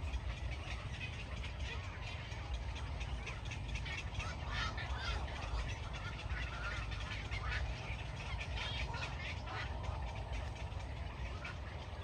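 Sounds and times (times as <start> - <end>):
waterbirds calling: 0.0 - 12.0.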